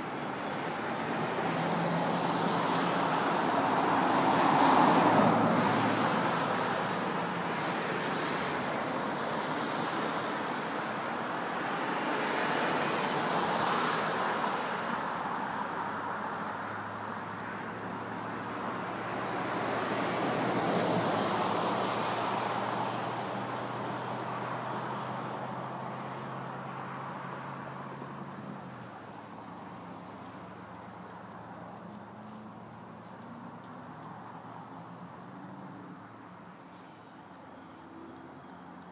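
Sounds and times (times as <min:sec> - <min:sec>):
cars passing: 0:00.0 - 0:38.9
crickets chirping: 0:00.0 - 0:38.9.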